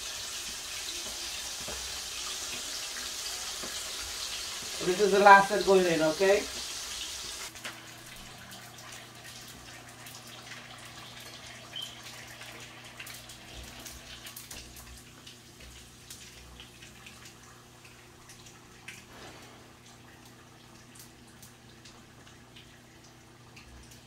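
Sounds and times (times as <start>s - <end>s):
food frying in oil: 0.0s - 24.0s.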